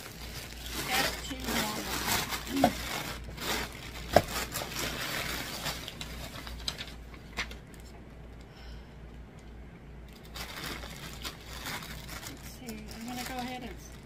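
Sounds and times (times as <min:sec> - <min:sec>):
plastic mailer bag crinkling: 0:00.0 - 0:07.9, 0:10.1 - 0:14.0.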